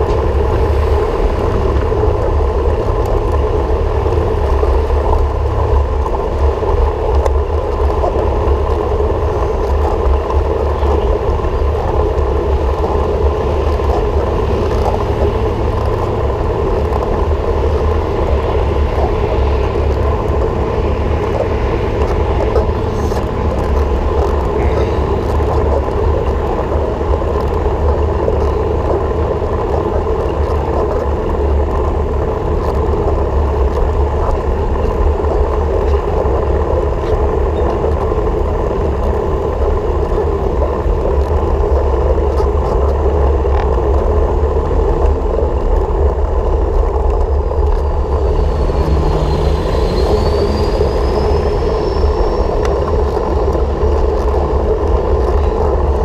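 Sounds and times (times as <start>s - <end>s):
vehicle travel rumble: 0.0s - 56.0s.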